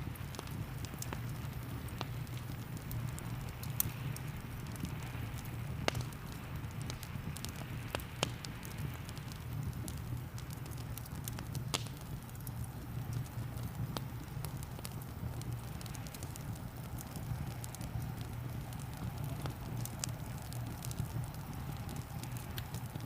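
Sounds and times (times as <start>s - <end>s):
fire popping: 0.0s - 23.0s
rain hiss: 0.0s - 23.0s
wood fire crackling: 0.0s - 23.0s.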